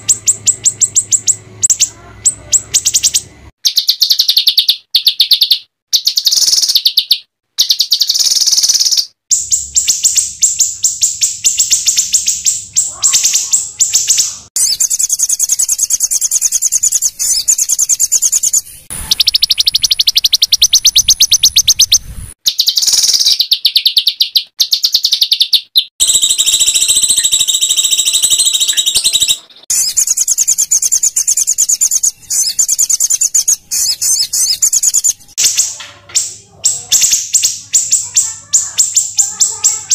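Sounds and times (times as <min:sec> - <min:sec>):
songbird harsh trills and rattles: 0:00.0 - 0:39.9.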